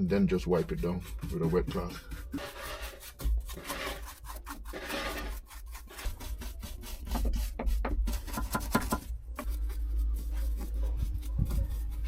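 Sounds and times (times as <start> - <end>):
hand rubbing and scrubbing: 0.0 - 12.0.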